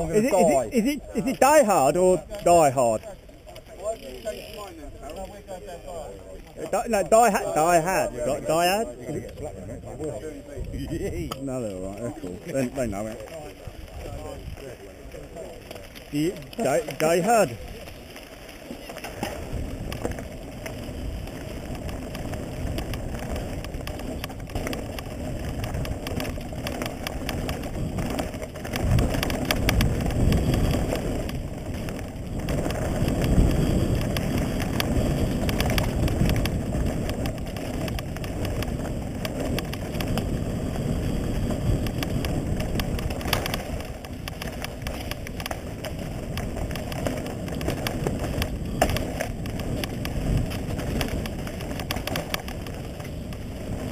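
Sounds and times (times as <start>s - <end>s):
bike clattering and rattling: 0.0s - 53.9s
bike tyres on gravel: 0.0s - 53.9s
wind on camera microphone: 0.0s - 53.9s.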